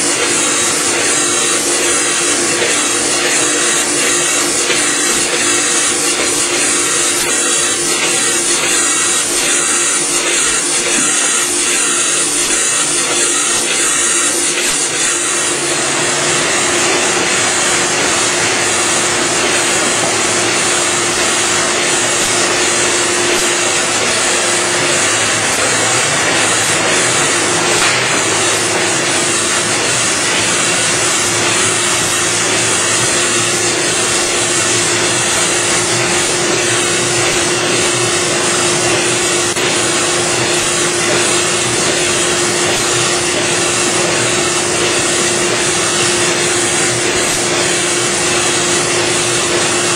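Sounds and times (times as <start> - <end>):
machine hum: 0.0 - 49.9
printing machine whirring: 0.0 - 49.9.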